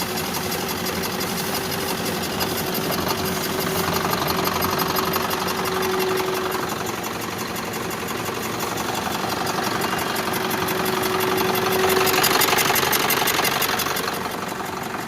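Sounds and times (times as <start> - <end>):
diesel engine running: 0.0 - 15.0
fan belt rattle: 0.0 - 15.0.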